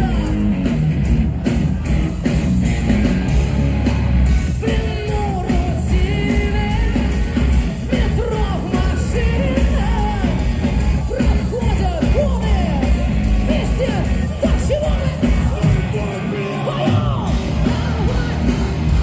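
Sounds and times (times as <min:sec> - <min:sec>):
heavy rock band playing: 0:00.0 - 0:19.0.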